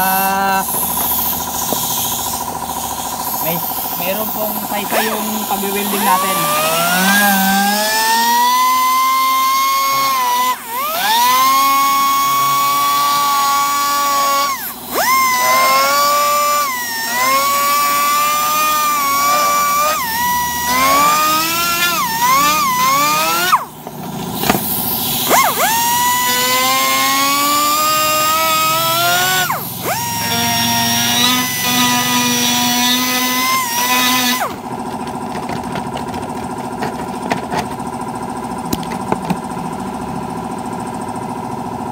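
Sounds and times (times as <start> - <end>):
rotary grinding tool whining: 0.0 - 38.0.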